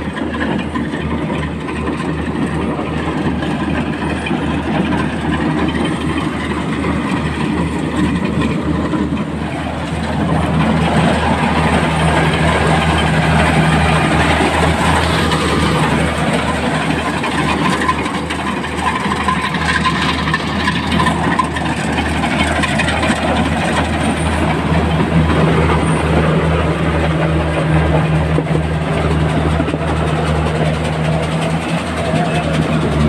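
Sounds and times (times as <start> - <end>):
constant rushing noise: 0.0 - 33.0.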